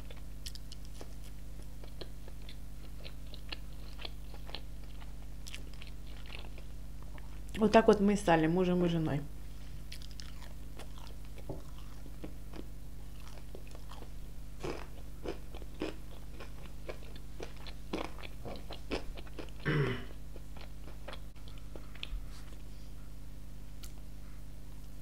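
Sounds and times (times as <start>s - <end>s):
chewing fried chicken: 0.0s - 7.6s, 9.6s - 22.7s.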